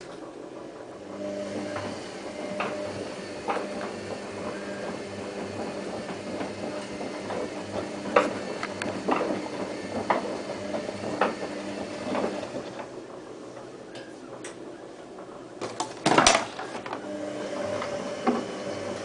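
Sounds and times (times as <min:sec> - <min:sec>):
washing machine humming: 0:00.0 - 0:19.0
washing machine knocking: 0:00.6 - 0:13.2, 0:15.6 - 0:19.0.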